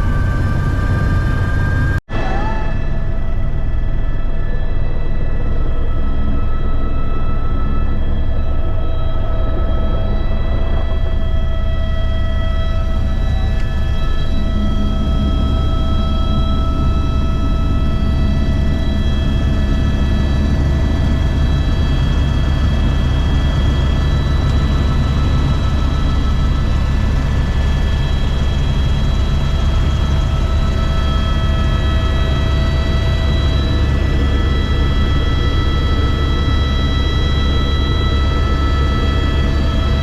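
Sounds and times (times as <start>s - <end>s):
helicopter rotor drone: 0.0s - 40.0s
turbine engine whine: 0.0s - 40.0s.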